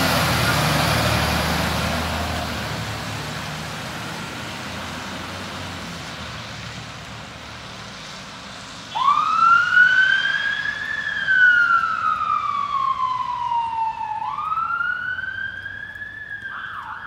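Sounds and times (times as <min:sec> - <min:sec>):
fire engine siren wailing: 0:00.0 - 0:17.0.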